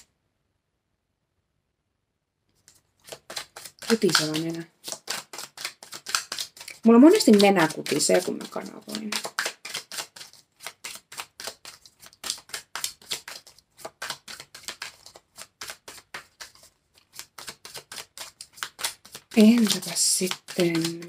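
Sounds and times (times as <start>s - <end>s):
cards being shuffled: 2.5s - 21.0s.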